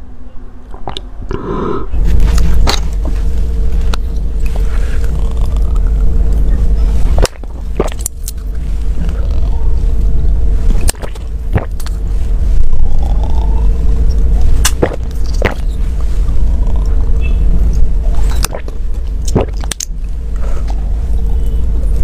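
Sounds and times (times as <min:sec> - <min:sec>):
low microphone rumble: 0:00.0 - 0:22.0
steady hum: 0:00.0 - 0:22.0.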